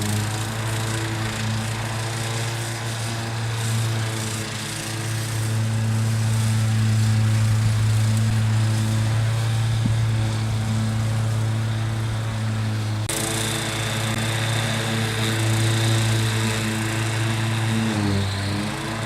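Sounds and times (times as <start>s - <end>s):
ride-on lawn mower engine: 0.0s - 19.0s.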